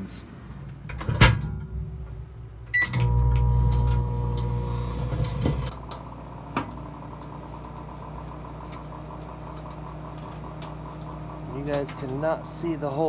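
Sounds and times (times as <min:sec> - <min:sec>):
microwave oven humming: 0:00.4 - 0:13.0.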